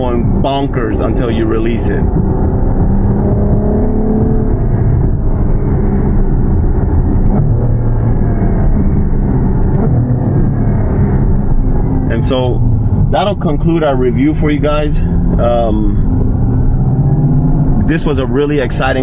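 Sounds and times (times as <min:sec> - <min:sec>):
car engine from inside cabin: 0:00.0 - 0:19.0.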